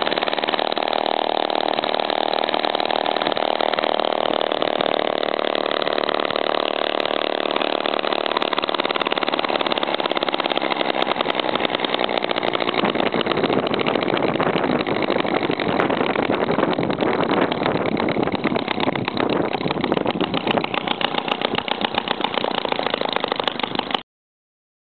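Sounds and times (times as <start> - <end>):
gas engine running: 0.0 - 24.0.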